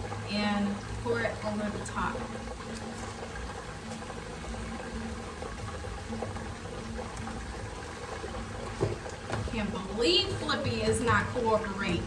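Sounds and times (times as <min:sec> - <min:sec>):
sauce bubbling in frying pan: 0:00.0 - 0:12.0.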